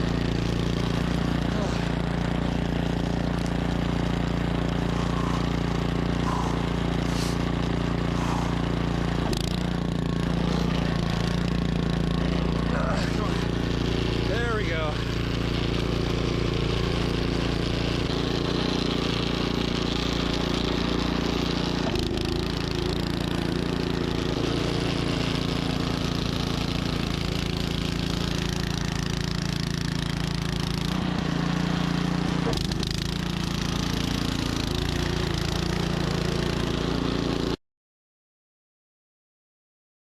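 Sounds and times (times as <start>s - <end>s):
snowblower engine running: 0.0s - 37.6s.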